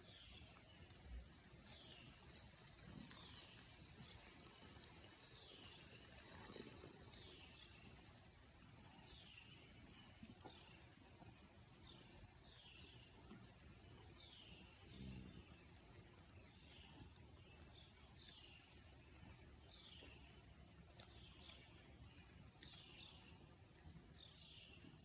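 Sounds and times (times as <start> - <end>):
rural background noise: 0.0 - 25.0.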